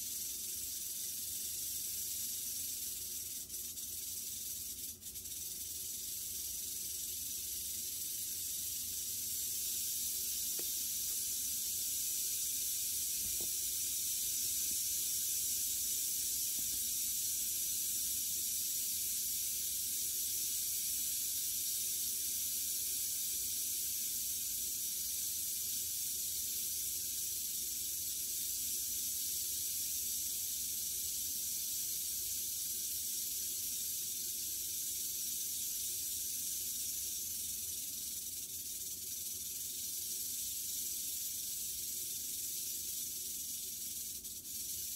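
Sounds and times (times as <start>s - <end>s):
rattlesnake tail rattle buzzing: 0.0s - 44.9s.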